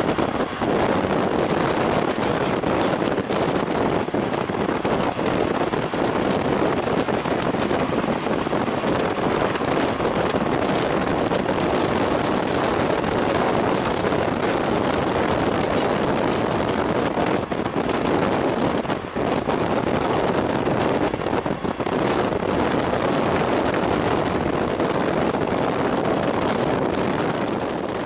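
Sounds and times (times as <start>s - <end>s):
motorcycle engine and tyre noise: 0.0s - 28.0s
wind rush on microphone: 0.0s - 28.0s.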